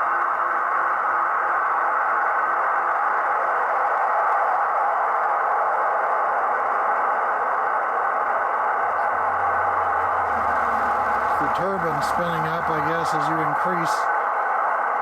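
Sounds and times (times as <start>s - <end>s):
model locomotive turbine roar: 0.5s - 14.2s.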